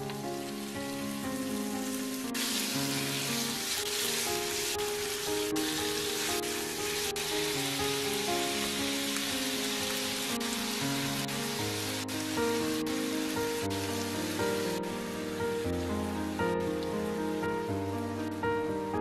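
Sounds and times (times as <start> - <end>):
chicken sizzling in hot oil: 0.0 - 18.4
soft background music: 0.0 - 19.0.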